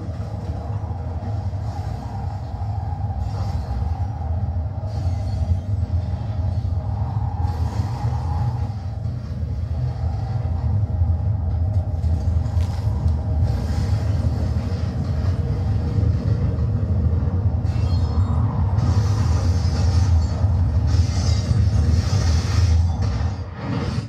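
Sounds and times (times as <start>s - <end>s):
deep rumbling drone: 0.0s - 24.0s
hissing rushing noise: 0.0s - 24.0s.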